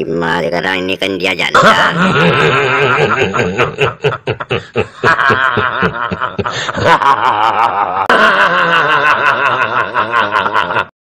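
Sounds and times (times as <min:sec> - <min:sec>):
man laughing hard: 0:01.6 - 0:10.9.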